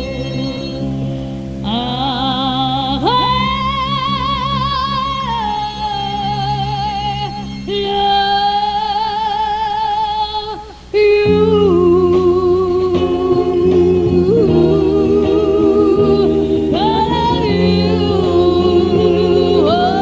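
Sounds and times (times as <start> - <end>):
singer holding notes with vibrato: 0.0 - 20.0.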